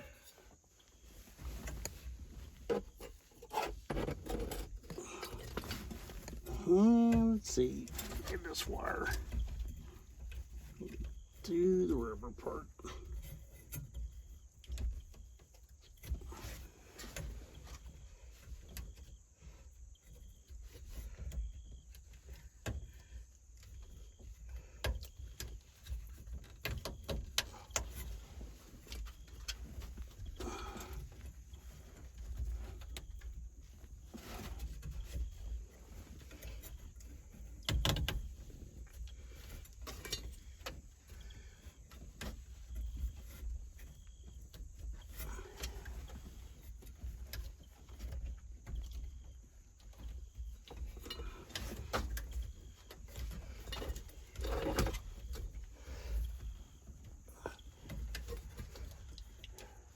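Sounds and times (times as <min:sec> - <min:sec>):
light clicks and rustles of hand work: 0:00.0 - 0:59.9.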